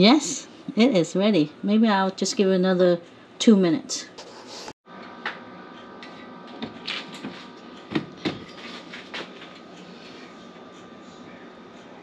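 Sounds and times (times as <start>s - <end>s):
oven humming with faint whine: 0.0s - 12.0s.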